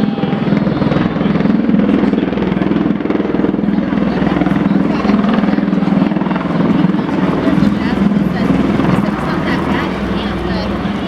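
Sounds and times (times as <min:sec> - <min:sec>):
tiltrotor aircraft rotor throb: 0:00.0 - 0:11.0.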